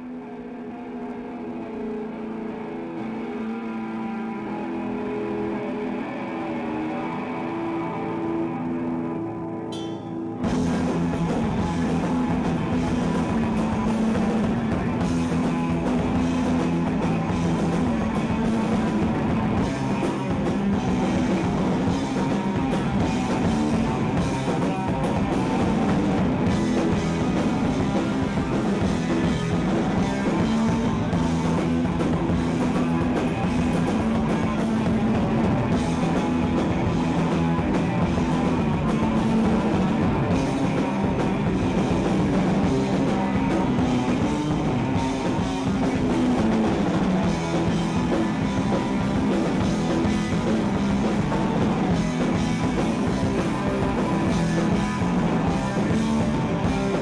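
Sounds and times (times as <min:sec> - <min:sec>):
punk rock band playing live: 0:00.0 - 0:57.0.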